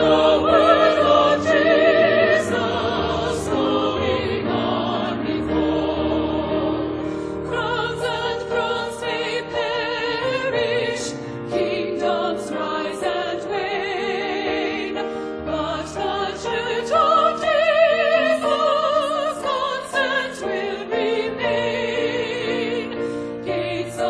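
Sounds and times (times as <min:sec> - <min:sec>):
operatic singing: 0:00.0 - 0:24.0.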